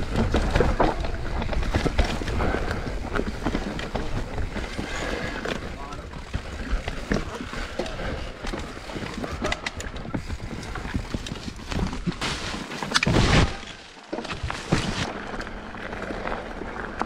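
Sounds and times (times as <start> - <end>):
bike rattling over bumps: 0.0 - 17.0
tyres rolling on dirt: 0.0 - 17.0.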